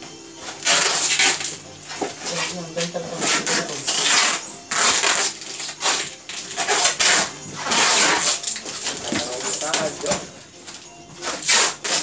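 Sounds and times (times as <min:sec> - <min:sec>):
styrofoam scraping: 0:00.4 - 0:12.0.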